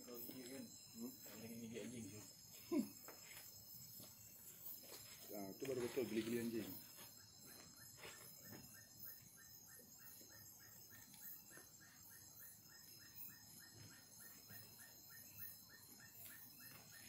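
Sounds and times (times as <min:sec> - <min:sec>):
insects trilling: 0:00.0 - 0:17.0
rapid pulsing insect call: 0:00.0 - 0:17.0.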